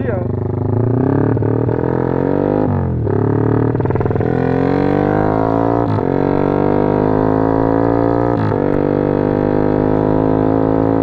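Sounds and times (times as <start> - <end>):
motorcycle engine droning: 0.0 - 11.0.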